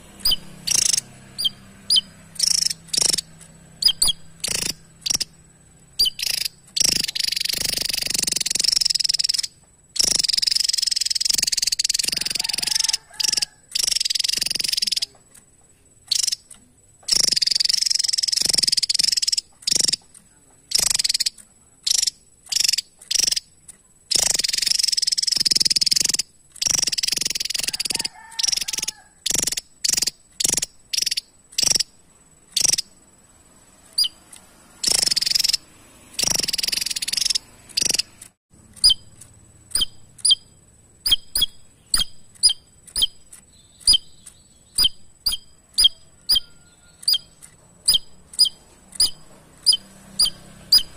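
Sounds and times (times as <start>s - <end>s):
bird high-pitched chattering: 0.2s - 15.2s, 16.0s - 33.0s, 33.9s - 35.6s, 36.2s - 38.2s, 38.8s - 50.9s.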